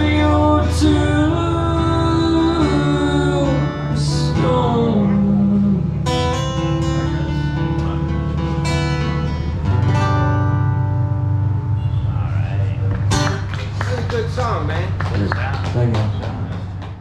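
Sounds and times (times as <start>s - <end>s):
acoustic guitar playing: 0.0s - 16.9s.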